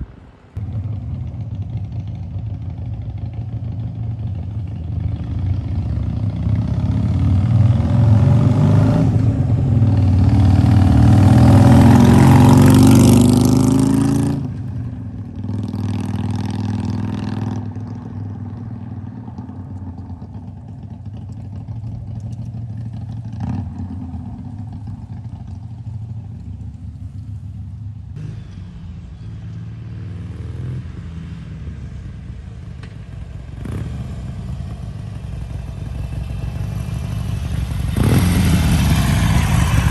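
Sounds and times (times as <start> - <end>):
motorcycle engine revving: 0.6 - 39.9.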